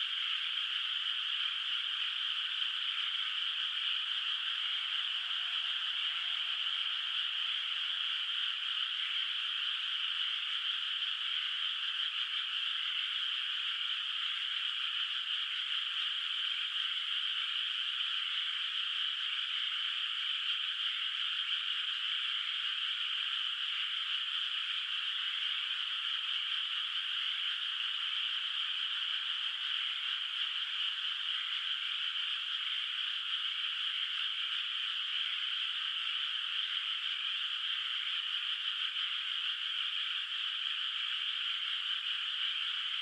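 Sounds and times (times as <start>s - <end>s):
frogs calling: 0.0s - 43.0s.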